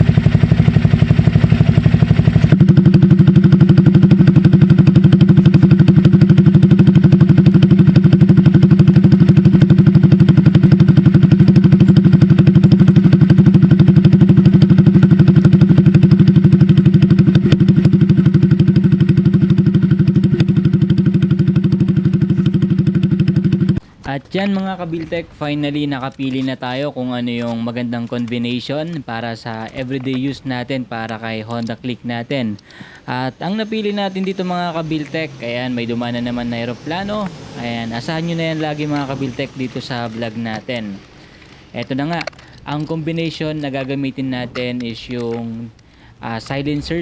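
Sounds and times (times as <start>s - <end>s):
scooter engine idling: 0.0s - 47.0s.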